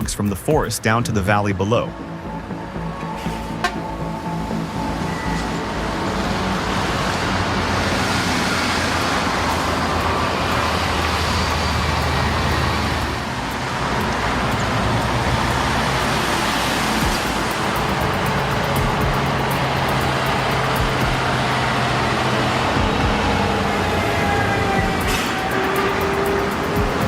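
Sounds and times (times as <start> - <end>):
truck engine under load: 0.0 - 27.0
tyre and road noise: 0.0 - 27.0.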